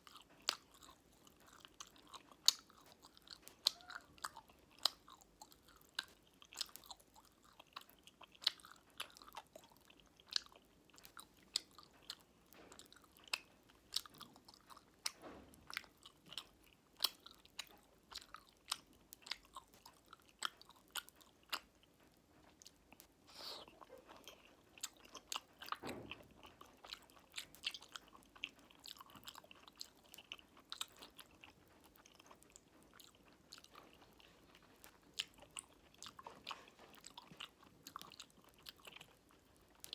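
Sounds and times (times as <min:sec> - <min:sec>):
popping candy crackles: 0:00.0 - 0:39.9
wet chewing: 0:00.0 - 0:39.9.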